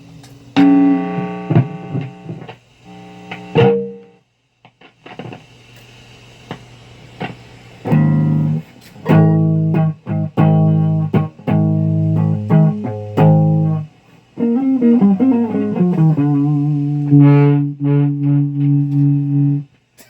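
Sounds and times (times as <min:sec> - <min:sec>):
distorted electric guitar: 0:00.0 - 0:04.2, 0:07.2 - 0:19.8.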